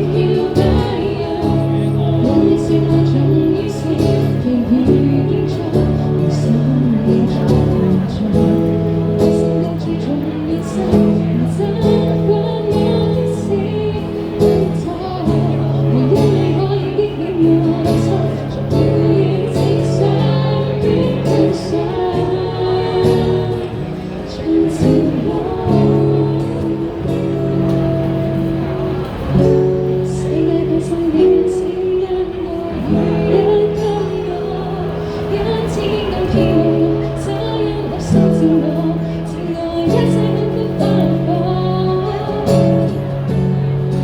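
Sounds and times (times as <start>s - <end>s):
woman singing: 0.0s - 28.1s, 29.4s - 44.0s.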